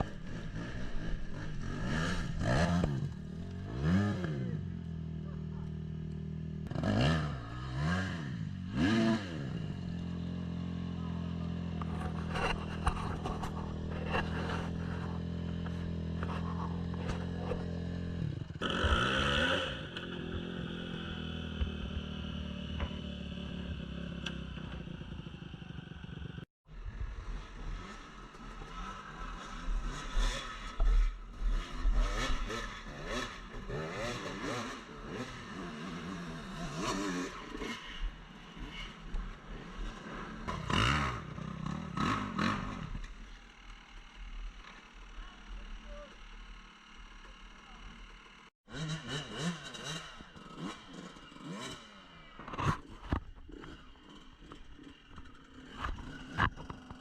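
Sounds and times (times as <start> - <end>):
dirt bike engine idling and revving: 0.0 - 57.0.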